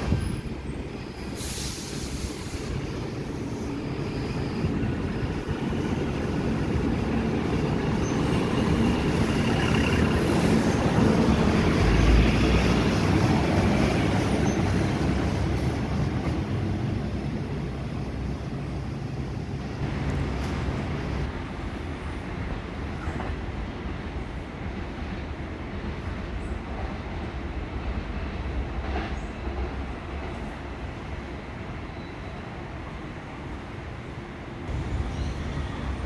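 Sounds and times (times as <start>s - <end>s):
train wheels rumbling on rails: 0.0s - 33.6s.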